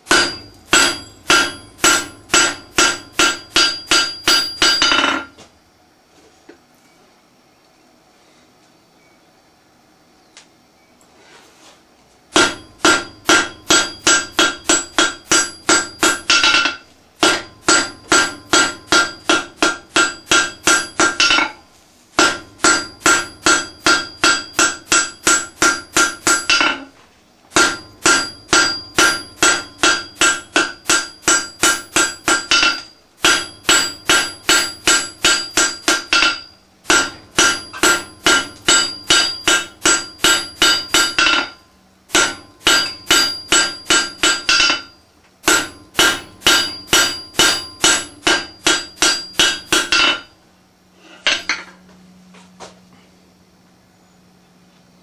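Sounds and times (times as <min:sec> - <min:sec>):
hammer striking steel on anvil: 0:00.0 - 0:05.4, 0:12.3 - 0:50.4, 0:51.0 - 0:51.8.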